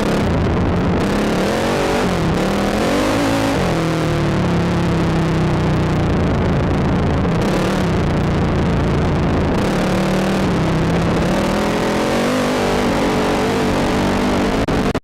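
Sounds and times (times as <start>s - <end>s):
atv engine revving: 0.0s - 5.9s, 7.2s - 15.0s.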